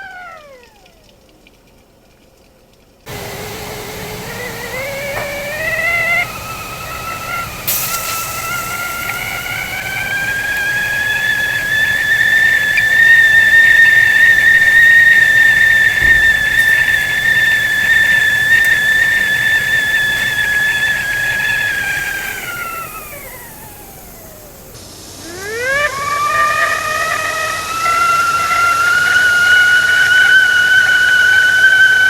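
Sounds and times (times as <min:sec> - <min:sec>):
kettle whistling: 0:03.1 - 0:32.0.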